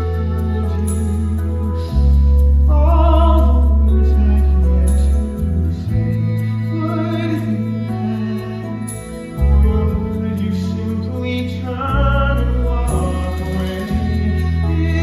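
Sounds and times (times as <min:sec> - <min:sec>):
instrumental accompaniment: 0:00.0 - 0:15.0
person singing with vibrato: 0:00.0 - 0:15.0.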